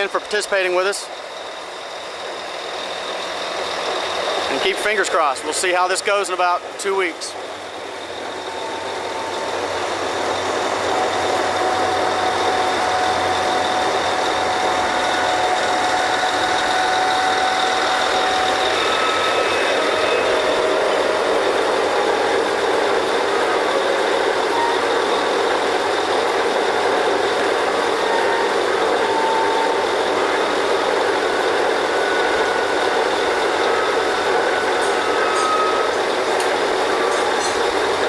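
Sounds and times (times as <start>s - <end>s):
drilling rig engine running: 0.0s - 38.0s
faint steady whines: 0.0s - 38.0s.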